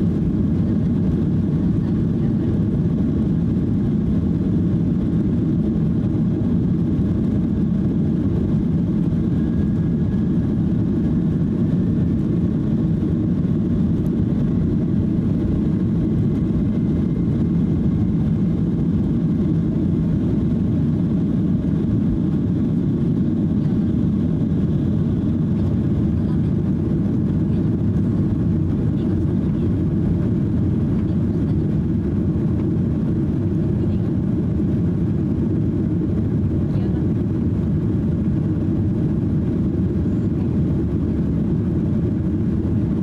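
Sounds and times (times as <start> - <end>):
jet engines rumbling at takeoff: 0.0 - 43.0.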